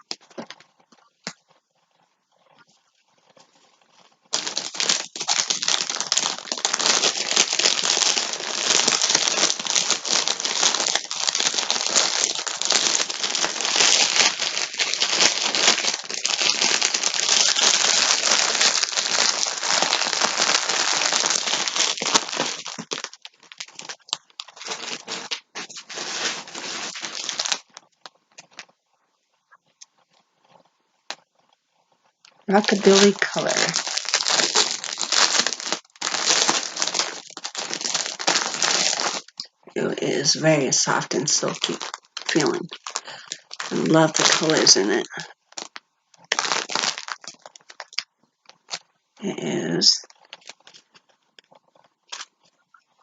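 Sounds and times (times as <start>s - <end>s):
packaging crinkling: 2.4s - 28.7s, 32.3s - 48.9s, 50.0s - 52.6s.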